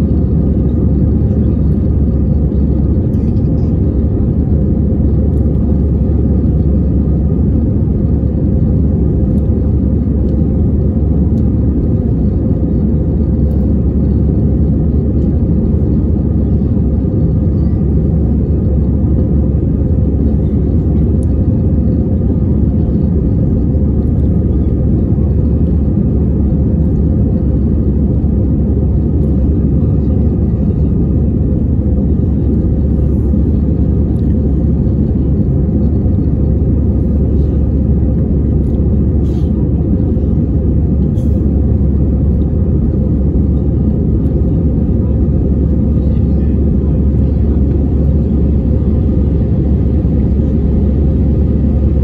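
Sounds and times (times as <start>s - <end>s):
jet engine cabin drone: 0.0s - 52.0s.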